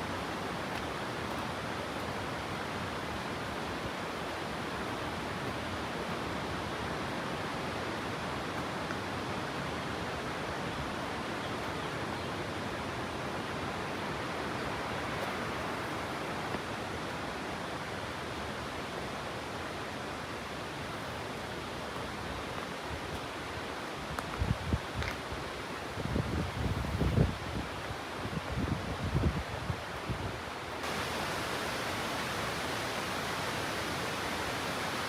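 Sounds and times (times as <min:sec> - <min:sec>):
water rushing: 0:00.0 - 0:24.2, 0:29.5 - 0:35.0.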